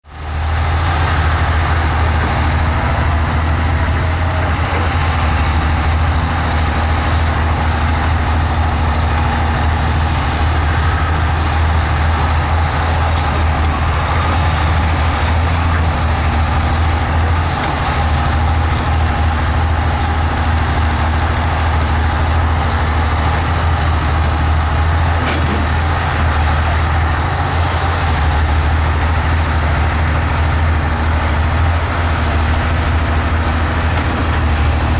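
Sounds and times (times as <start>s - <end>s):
heavy diesel engine droning: 0.0s - 34.9s.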